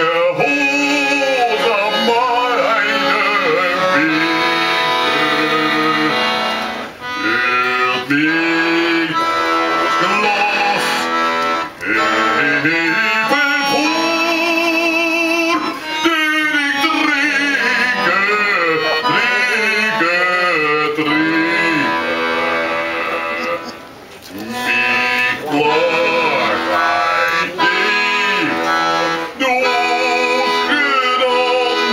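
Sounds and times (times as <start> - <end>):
classical singer with vibrato: 0.0 - 31.9
instrumental accompaniment: 0.0 - 31.9.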